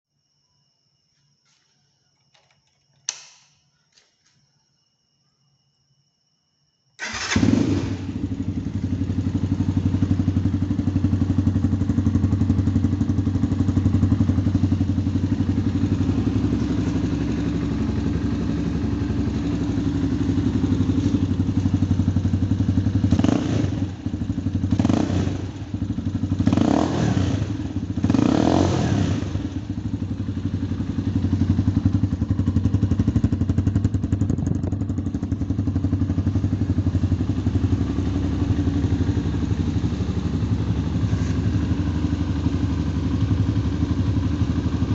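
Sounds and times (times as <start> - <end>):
motorcycle engine idling: 7.0 - 44.9
motorcycle engine revving: 7.0 - 44.9.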